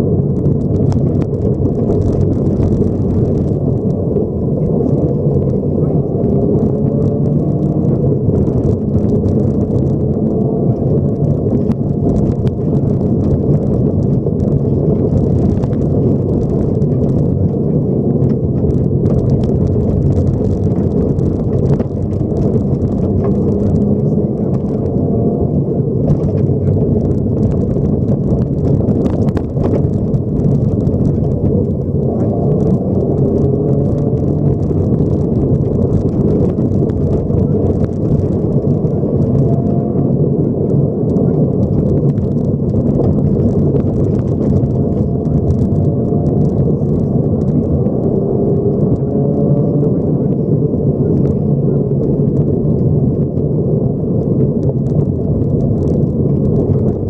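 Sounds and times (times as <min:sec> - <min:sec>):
rally car engine running hard: 0:00.0 - 0:57.0
tyre and road rumble: 0:00.0 - 0:57.0.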